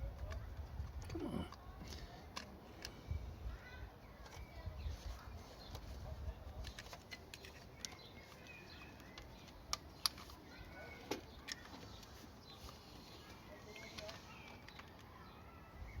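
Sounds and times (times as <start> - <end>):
faint birdsong chirping: 0.0 - 16.0.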